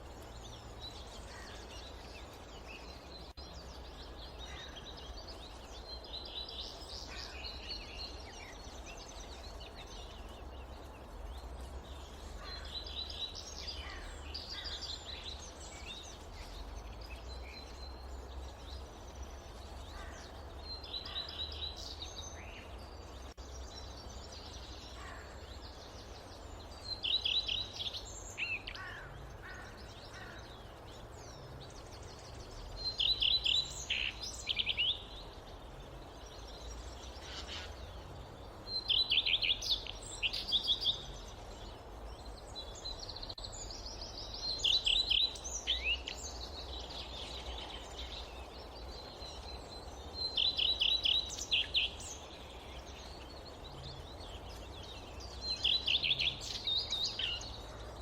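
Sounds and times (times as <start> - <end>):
forest birds trilling: 0.0 - 58.0
low wind rumble: 0.0 - 58.0.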